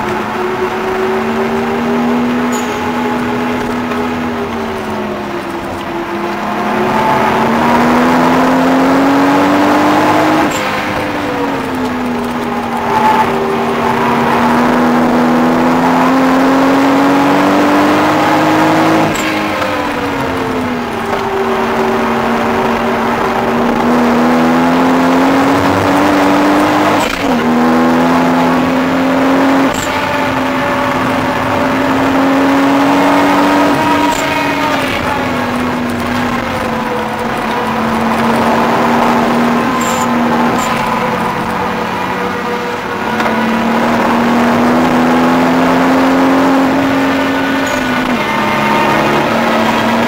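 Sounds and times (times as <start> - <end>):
car engine at high revs: 0.0 - 50.0.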